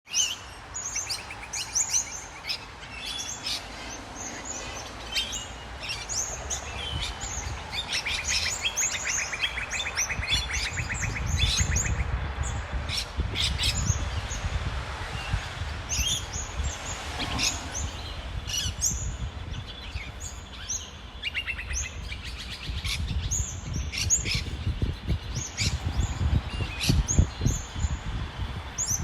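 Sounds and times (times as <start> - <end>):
birds chirping: 0.1 - 29.0
road traffic rumble: 0.2 - 29.0.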